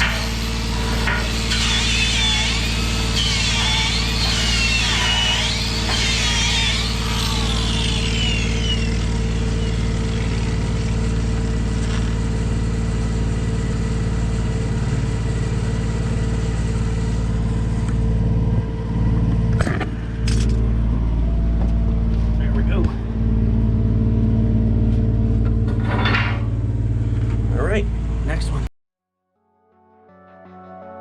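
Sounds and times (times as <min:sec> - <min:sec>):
engine running steadily: 0:00.0 - 0:28.7.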